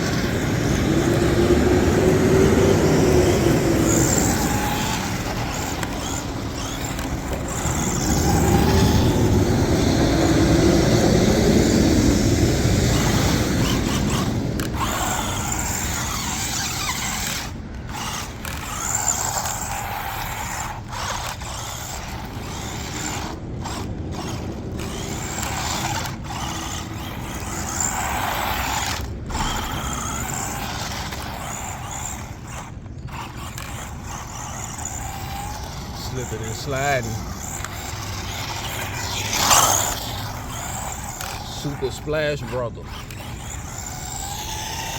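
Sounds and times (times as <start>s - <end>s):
toy truck electric motor whining: 0.0s - 44.9s.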